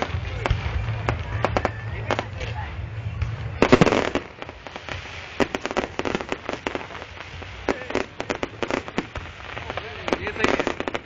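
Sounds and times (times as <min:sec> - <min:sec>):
fireworks crackling pops: 0:00.0 - 0:11.0
fireworks cracks and bangs: 0:00.0 - 0:11.0.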